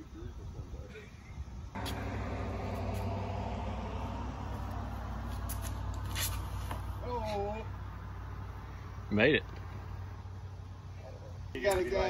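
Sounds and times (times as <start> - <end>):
vehicle engine humming: 1.7 - 11.6.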